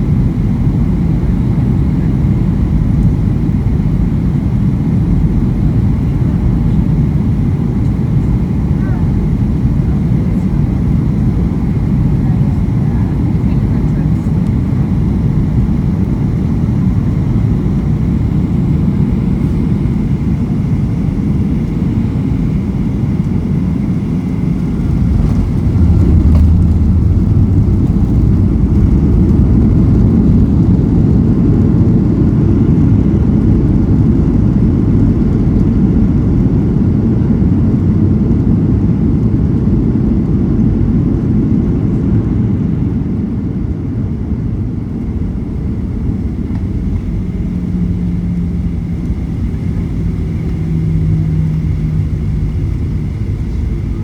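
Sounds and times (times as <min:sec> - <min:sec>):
aircraft cabin engine rumble: 0:00.0 - 0:54.0.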